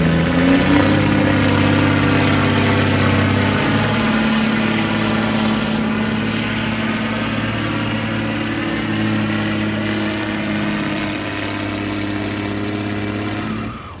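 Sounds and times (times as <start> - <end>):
diesel truck engine at high revs: 0.0 - 14.0.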